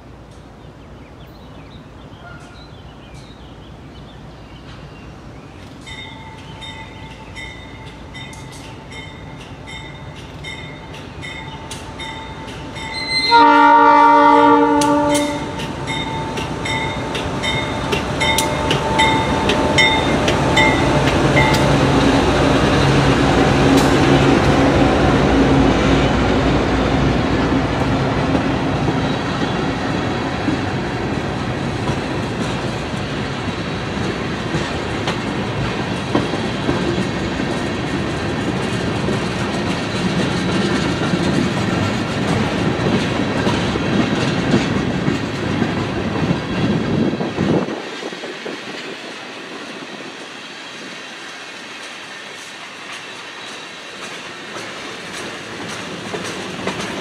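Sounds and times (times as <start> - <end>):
locomotive engine hum: 1.8 - 57.0
train cars clickety-clack: 2.2 - 3.4, 4.6 - 57.0.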